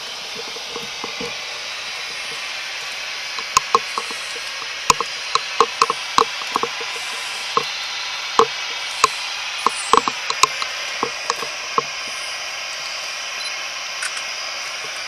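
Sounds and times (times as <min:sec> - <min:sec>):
sharp clicks and ticks: 0:00.0 - 0:12.2
radio static hiss: 0:00.0 - 0:15.0.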